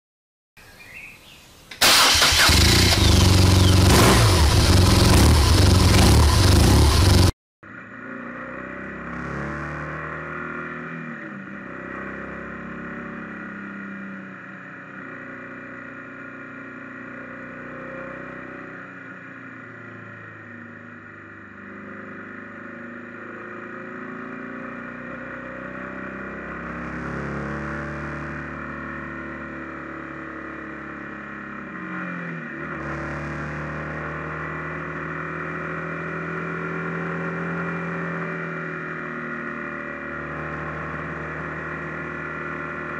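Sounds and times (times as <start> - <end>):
wind and road noise: 0.6 - 42.9
motorcycle engine running: 1.9 - 42.9.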